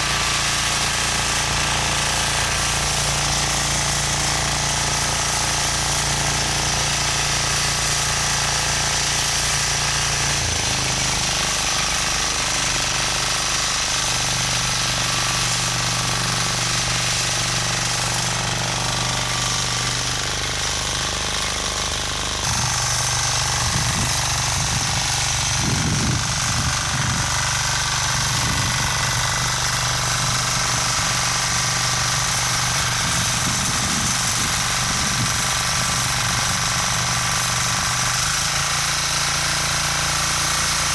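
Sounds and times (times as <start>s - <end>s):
rotary tiller engine rattling drone: 0.0s - 40.9s
tines milling soil: 0.0s - 40.9s.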